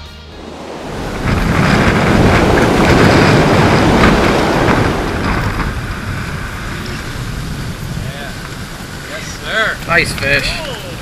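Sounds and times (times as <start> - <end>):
surf crashing on rocks: 0.3 - 11.0
wind buffeting microphone: 0.3 - 11.0.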